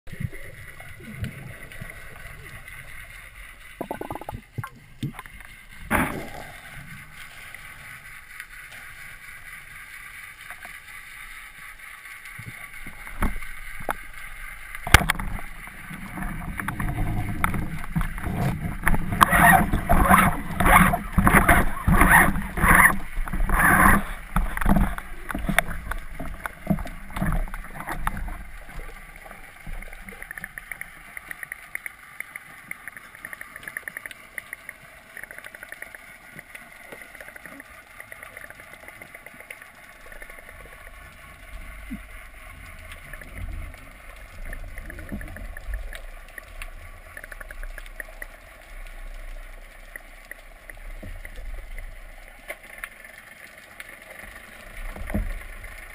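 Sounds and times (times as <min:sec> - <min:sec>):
small underwater clicks: 0:00.1 - 0:55.9.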